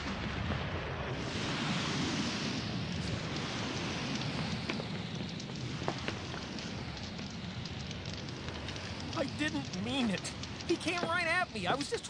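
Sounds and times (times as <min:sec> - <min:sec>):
fire crackles: 0:00.0 - 0:12.0
large fire hissing: 0:00.0 - 0:12.0.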